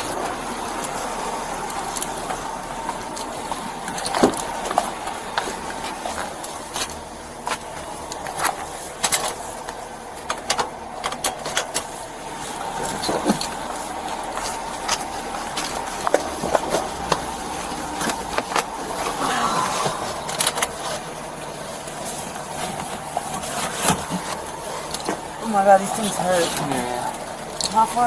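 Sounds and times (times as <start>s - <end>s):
steady vehicle noise: 0.0s - 28.0s.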